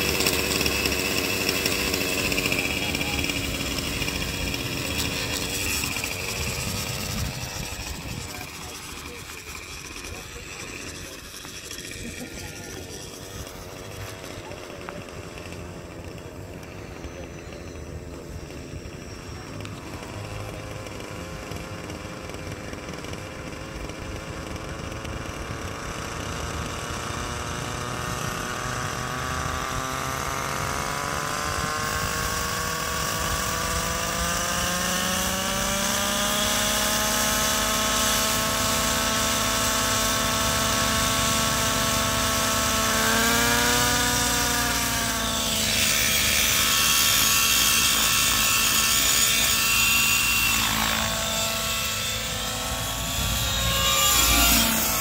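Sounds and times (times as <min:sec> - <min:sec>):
model helicopter engine spooling up: 0:00.0 - 0:55.0.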